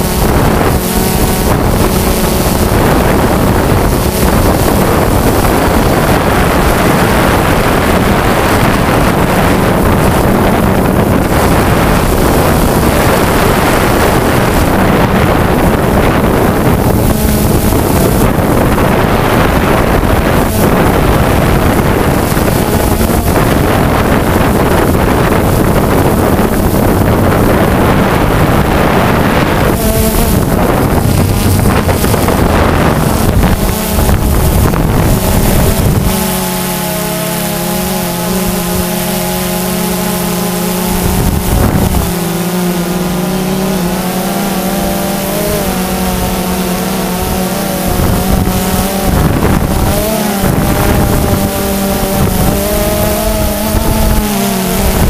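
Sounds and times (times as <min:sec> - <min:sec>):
drone motors buzzing: 0:00.0 - 0:55.0
wind on microphone: 0:00.0 - 0:55.0.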